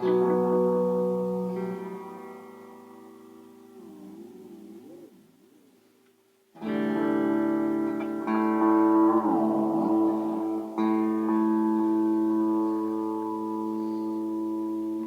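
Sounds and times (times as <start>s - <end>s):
electric guitar chords with delay: 0.0s - 3.9s, 6.6s - 15.0s.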